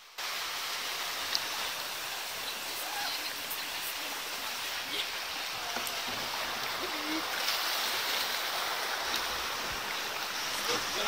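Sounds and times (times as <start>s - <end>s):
water rushing over stones: 0.0s - 11.0s.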